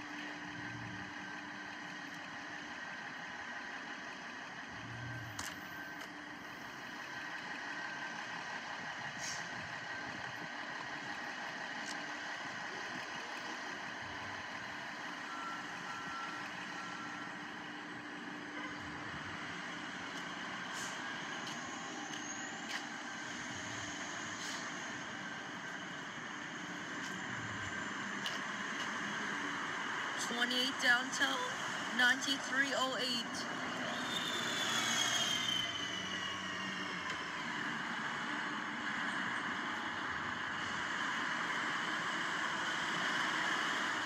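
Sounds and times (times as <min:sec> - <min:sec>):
bus engines droning: 0:00.0 - 0:44.0.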